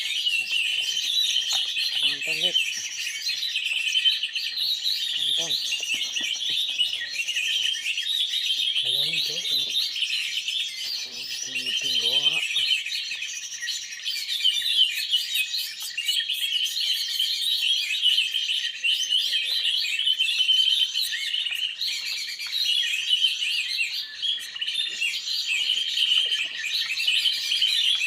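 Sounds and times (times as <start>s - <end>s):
many small birds chirping: 0.0s - 28.0s.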